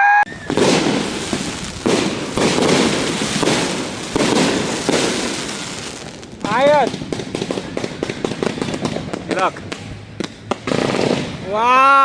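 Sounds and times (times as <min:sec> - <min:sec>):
fireworks bursting and crackling: 0:00.3 - 0:11.6.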